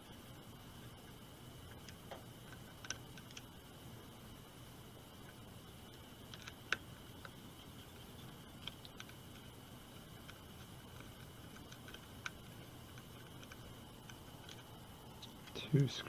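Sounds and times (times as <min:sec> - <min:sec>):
steady faint hum: 0:00.0 - 0:16.0.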